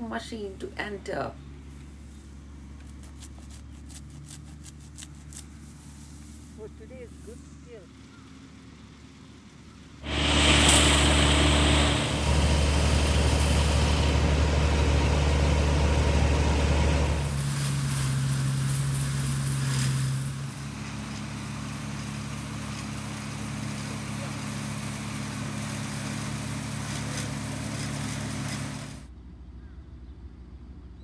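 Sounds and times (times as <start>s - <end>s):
harvester engine humming: 0.0s - 31.0s.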